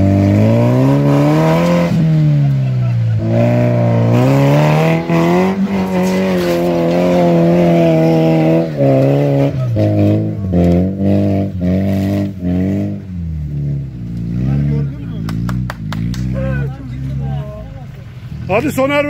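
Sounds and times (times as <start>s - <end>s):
suv engine revving hard: 0.0s - 17.5s.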